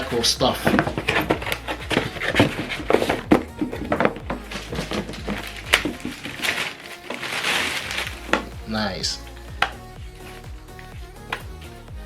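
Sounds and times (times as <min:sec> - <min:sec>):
cardboard and paper rustling: 0:00.0 - 0:10.4.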